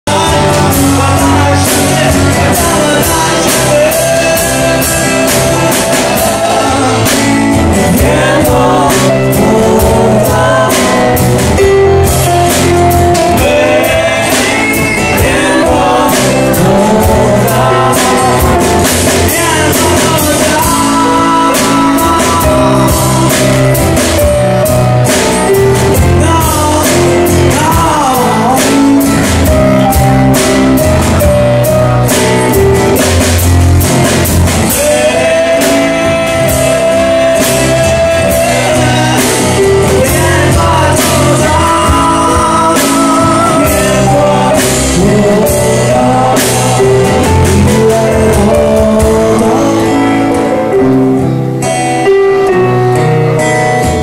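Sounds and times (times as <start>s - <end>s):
men singing: 0.0s - 29.6s, 34.0s - 50.9s
folk-rock band playing: 0.0s - 54.0s.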